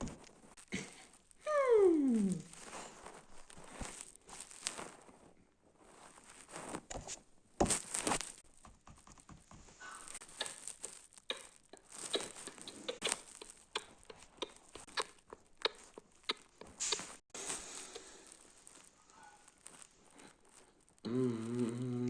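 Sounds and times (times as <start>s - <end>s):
rustling and crinkling: 0.0s - 21.6s.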